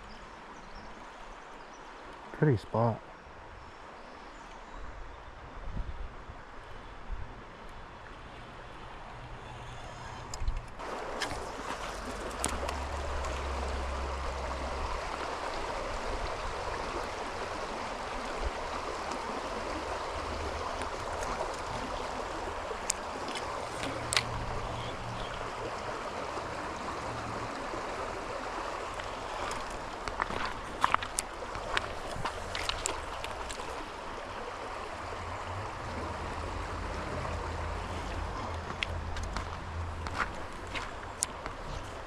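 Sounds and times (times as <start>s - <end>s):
creek water flowing: 0.0s - 42.0s.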